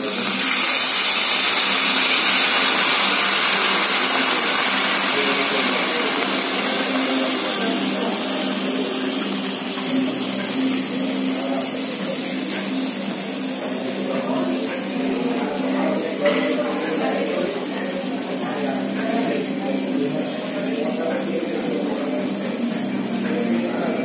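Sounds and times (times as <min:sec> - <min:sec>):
sauce sizzling on hot skillet: 0:00.0 - 0:24.0.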